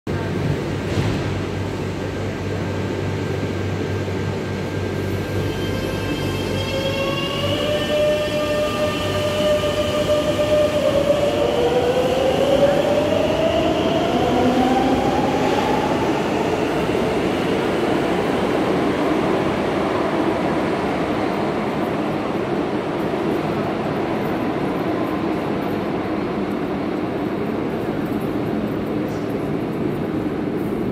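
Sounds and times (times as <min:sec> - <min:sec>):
train wheels rumbling on rail: 0:00.1 - 0:30.9.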